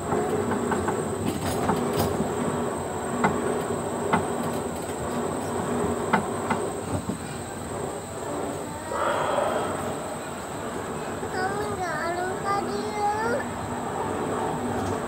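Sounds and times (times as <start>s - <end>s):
ride car humming on rail track: 0.0s - 15.0s
wheels clicking and knocking on rails: 0.0s - 15.0s.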